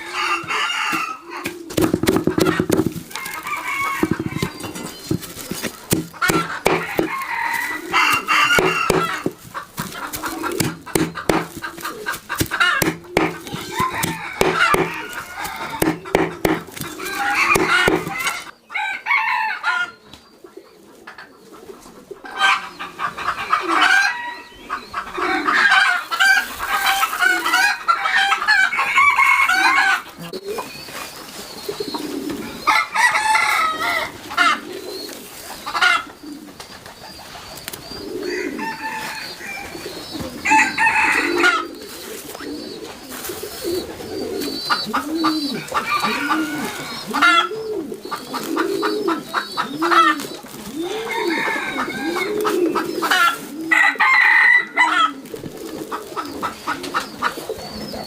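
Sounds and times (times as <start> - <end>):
chickens clucking and crowing: 0.0 - 58.0
pigeons cooing: 0.0 - 58.0.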